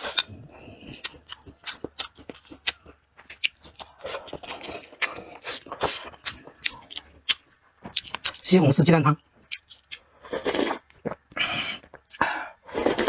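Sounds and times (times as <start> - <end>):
person chewing with wet smacks: 0.0 - 8.5, 9.4 - 13.0.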